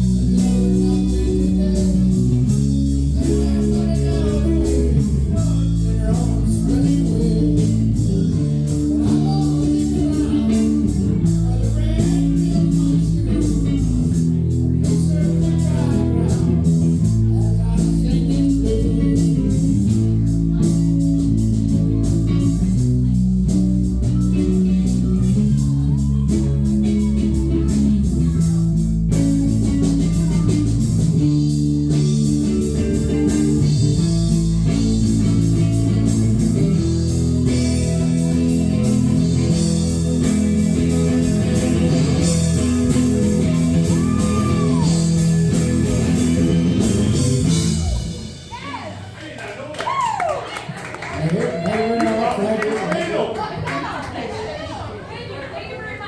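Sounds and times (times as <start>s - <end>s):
lead guitar: 0.0s - 48.8s
bass line: 0.0s - 49.1s
live band playing blues-rock: 0.0s - 49.1s.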